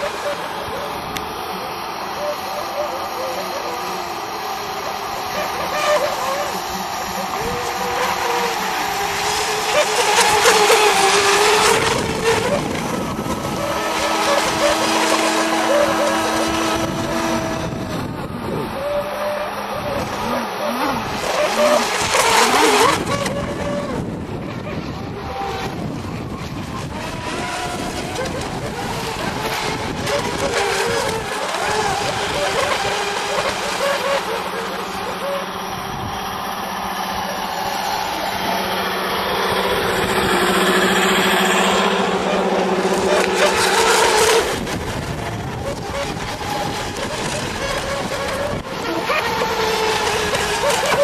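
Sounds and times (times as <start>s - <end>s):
boat spray hissing: 0.0s - 51.0s
model boat engines racing: 0.0s - 51.0s.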